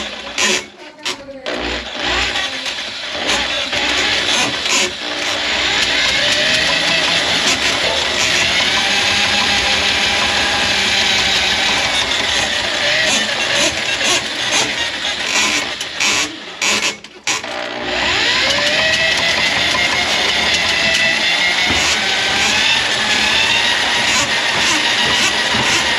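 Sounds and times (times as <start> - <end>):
electric motor whining: 0.0 - 25.9.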